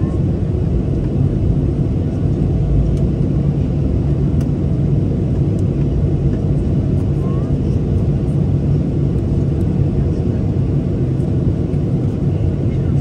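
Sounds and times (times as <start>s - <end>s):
low rumble inside jet cabin: 0.0s - 13.0s.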